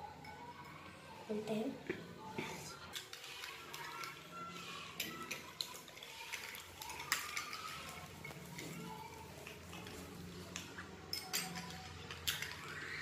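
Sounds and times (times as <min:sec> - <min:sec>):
spoons stirring slime in glass bowls: 0:00.0 - 0:13.0.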